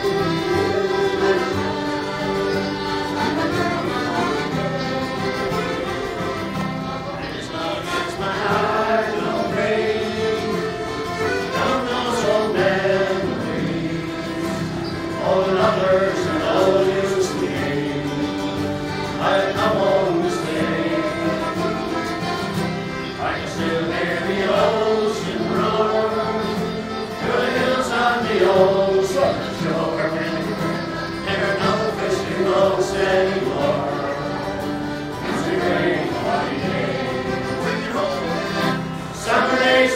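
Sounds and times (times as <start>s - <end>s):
acoustic guitar: 0.0s - 39.9s
button accordion: 0.0s - 39.9s
voices singing along: 0.0s - 39.9s.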